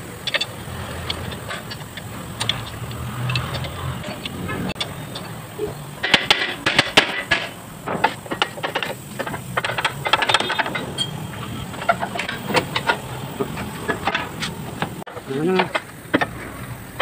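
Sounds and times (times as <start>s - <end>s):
hand tools clinking on metal: 0.0s - 16.2s.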